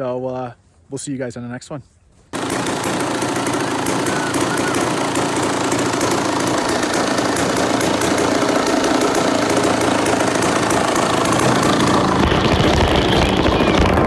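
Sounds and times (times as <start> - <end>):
two-stroke motorcycle engine running: 2.4 - 14.0.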